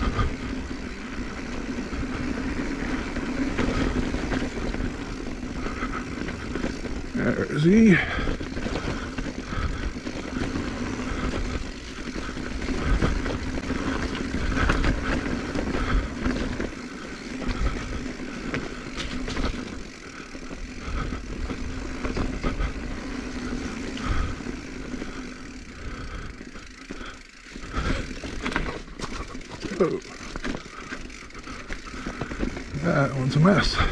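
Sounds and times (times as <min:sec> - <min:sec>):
bike tyres rolling over dirt: 0:00.0 - 0:33.9.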